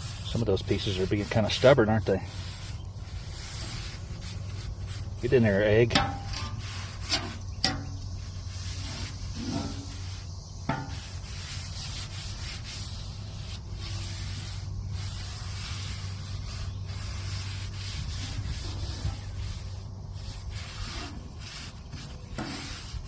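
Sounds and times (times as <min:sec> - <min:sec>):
scraping on steel griddle: 0:00.0 - 0:23.0
steady low hum: 0:00.0 - 0:23.0.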